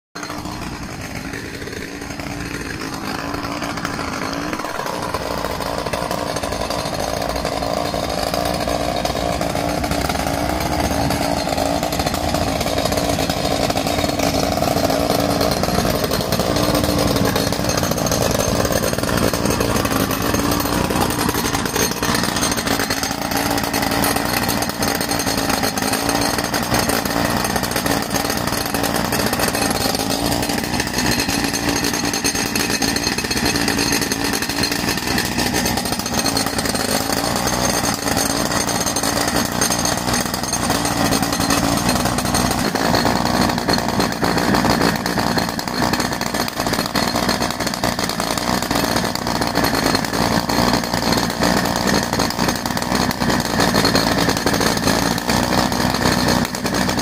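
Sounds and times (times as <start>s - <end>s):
jackhammer engine buzzing: 0.2s - 57.0s.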